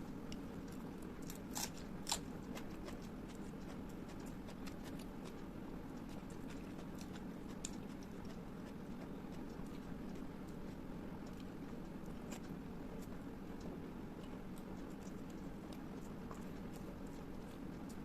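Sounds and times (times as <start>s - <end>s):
steady low hum: 0.0s - 18.0s
chewing with mouth clicks: 0.3s - 18.0s.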